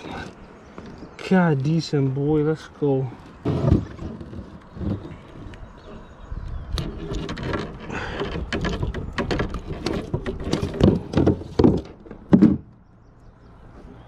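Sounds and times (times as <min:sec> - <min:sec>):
clicking and rattling on kayak hull: 0:00.0 - 0:01.8, 0:03.2 - 0:12.9.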